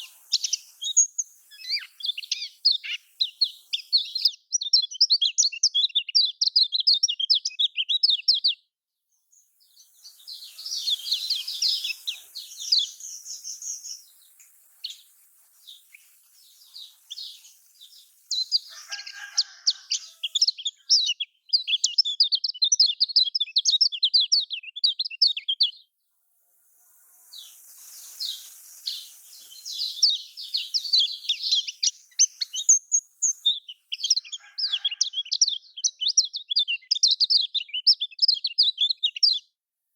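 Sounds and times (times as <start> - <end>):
bird singing chattering song: 0.0 - 25.9, 26.9 - 39.5.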